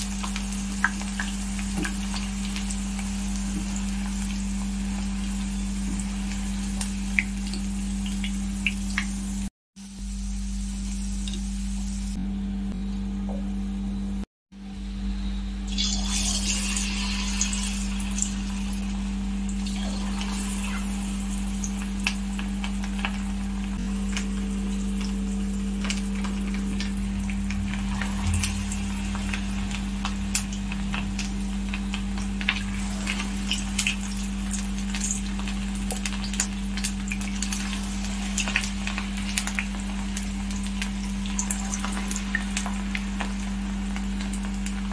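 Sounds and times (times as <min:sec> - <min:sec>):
oil sizzling and popping: 0:00.0 - 0:12.2, 0:15.7 - 0:44.9
steady low hum: 0:00.0 - 0:44.9.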